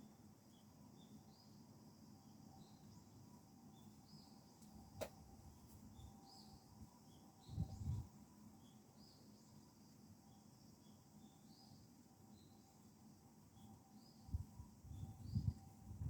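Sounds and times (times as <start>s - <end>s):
small birds chirping: 0.4s - 12.9s, 13.5s - 16.0s.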